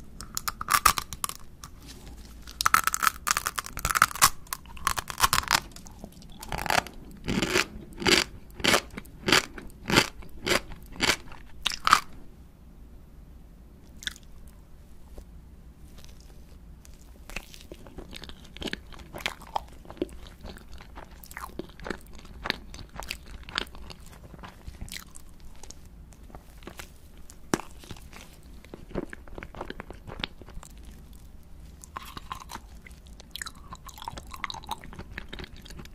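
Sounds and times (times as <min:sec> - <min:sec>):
person biting and chewing: 0:00.0 - 0:12.2, 0:16.0 - 0:31.2, 0:31.8 - 0:35.9.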